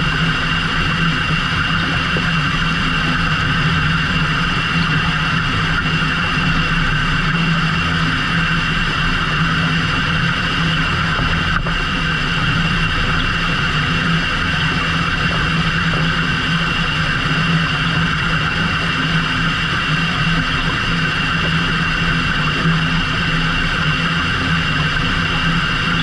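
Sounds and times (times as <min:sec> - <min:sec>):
boat engine humming: 0:00.0 - 0:26.0
high whine: 0:00.0 - 0:26.0.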